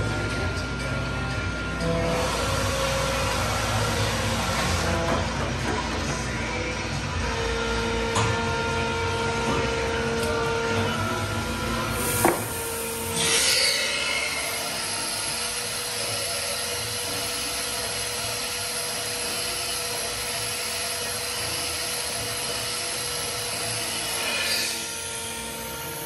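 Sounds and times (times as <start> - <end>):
milling machine humming: 0.0 - 26.0.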